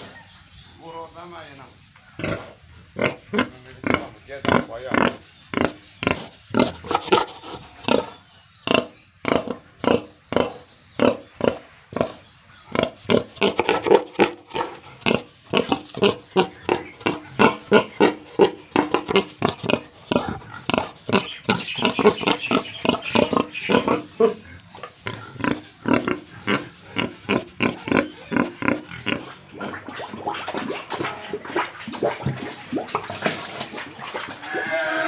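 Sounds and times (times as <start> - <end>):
pigs grunting: 2.1 - 35.0.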